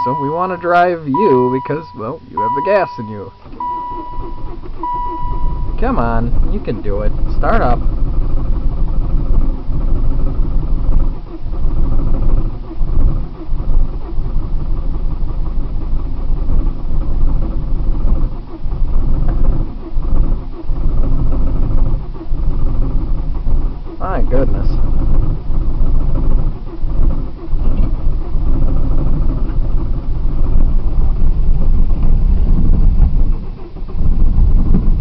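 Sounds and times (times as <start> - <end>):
starter cranking car engine: 0.0 - 35.0.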